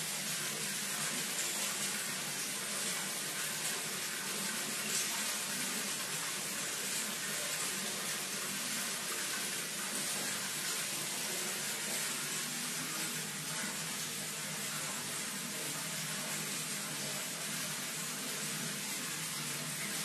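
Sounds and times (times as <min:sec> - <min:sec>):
tap water gushing into bathtub: 0:00.0 - 0:20.0.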